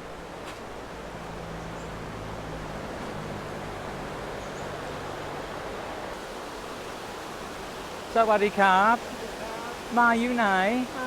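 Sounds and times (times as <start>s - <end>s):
river water rushing through weir: 0.0s - 11.0s.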